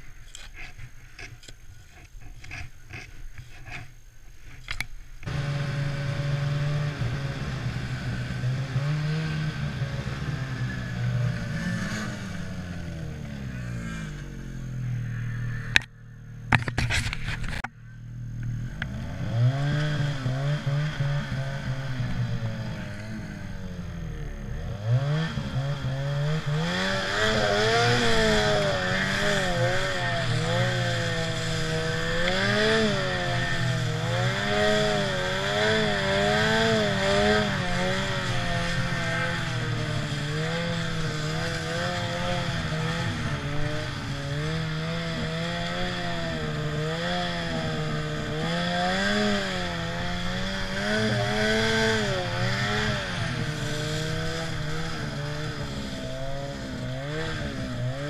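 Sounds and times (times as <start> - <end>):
snowmobile engine revving: 5.2 - 58.0.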